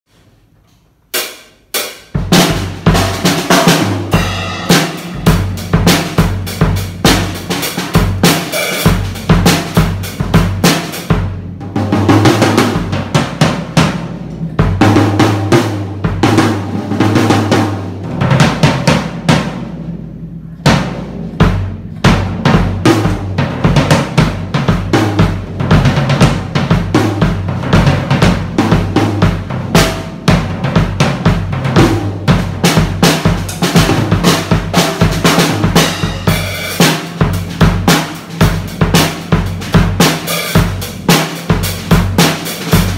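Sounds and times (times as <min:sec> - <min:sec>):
drum kit playing: 0:01.1 - 0:42.9.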